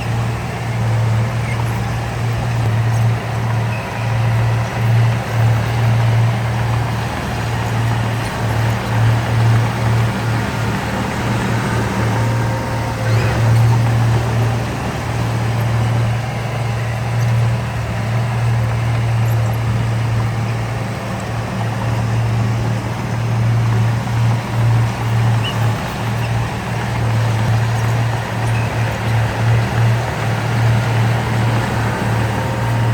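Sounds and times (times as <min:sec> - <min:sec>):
heavy diesel engine droning: 0:00.0 - 0:32.9.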